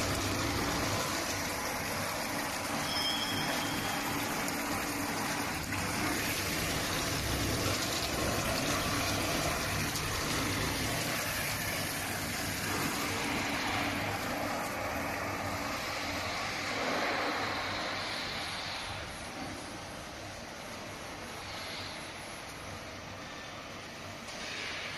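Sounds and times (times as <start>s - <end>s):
machine running: 0.0s - 22.2s.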